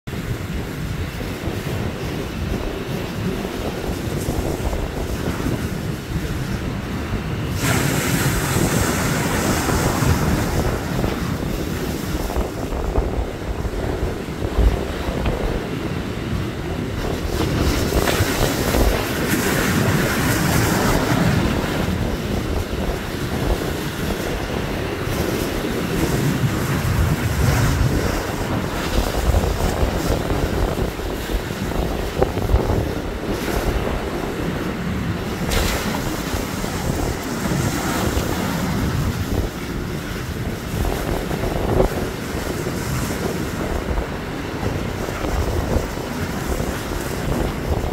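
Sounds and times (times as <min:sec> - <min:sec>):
ocean surf breaking on rocks: 0:00.1 - 0:47.9
wind buffeting microphone: 0:00.1 - 0:47.9.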